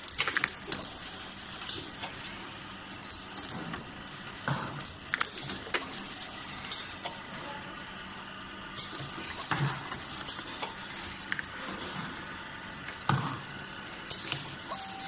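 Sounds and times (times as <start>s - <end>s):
machine whirring with high whine: 0.0s - 15.0s.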